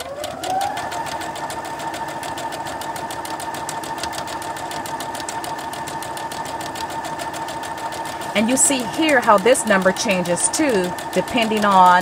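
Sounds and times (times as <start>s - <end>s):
needle ticking rapidly: 0.0s - 12.0s
sewing machine motor running: 0.0s - 12.0s.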